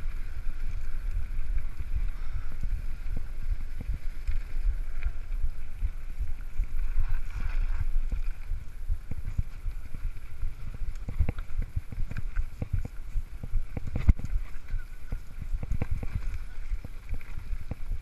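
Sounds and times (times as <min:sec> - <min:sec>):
bike knocking and rattling: 0:00.0 - 0:18.0
bike tyre noise: 0:00.0 - 0:18.0
wind rumbling on microphone: 0:00.0 - 0:18.0.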